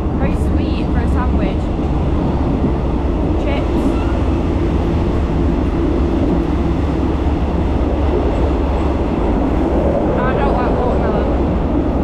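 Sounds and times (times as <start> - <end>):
moving train rumbling: 0.0 - 12.0.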